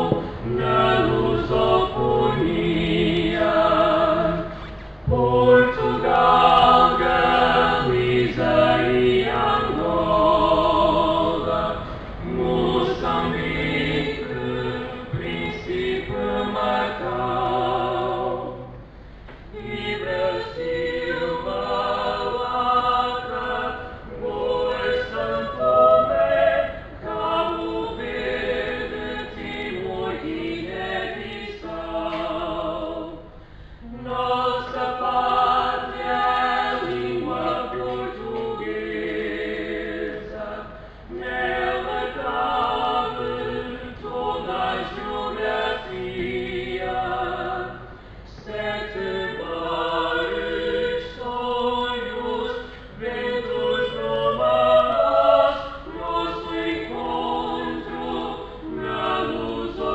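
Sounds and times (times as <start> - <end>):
vocal quartet singing a hymn: 0.0 - 59.9.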